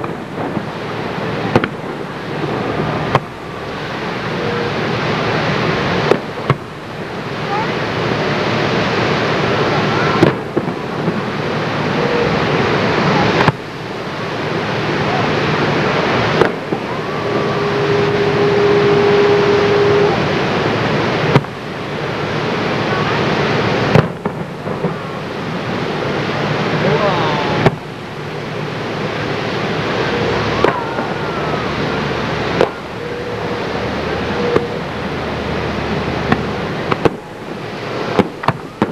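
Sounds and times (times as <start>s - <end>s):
distant fireworks bangs: 0.0s - 38.9s
rushing background noise: 0.0s - 38.9s.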